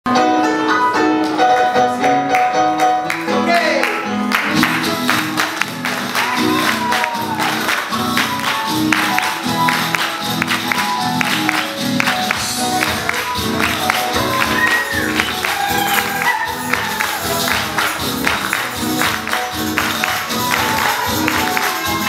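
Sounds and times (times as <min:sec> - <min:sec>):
acoustic guitar: 0:00.1 - 0:22.0
keyboard: 0:00.1 - 0:22.0
person singing: 0:00.1 - 0:22.0
percussive beats: 0:02.0 - 0:22.0.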